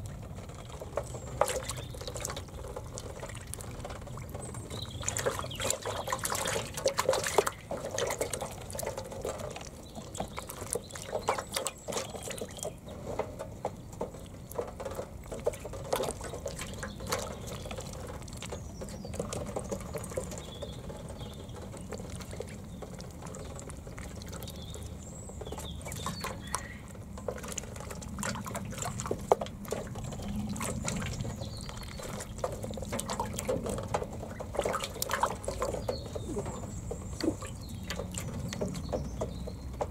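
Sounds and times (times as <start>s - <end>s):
ducklings splashing in water: 0.0s - 39.9s.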